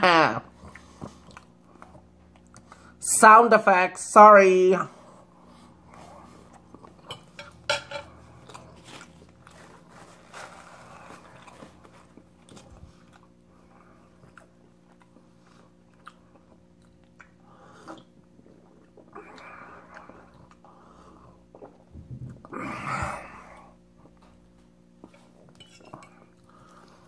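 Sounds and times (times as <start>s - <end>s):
person chewing food: 0.5s - 3.0s, 5.1s - 22.5s, 23.1s - 27.0s.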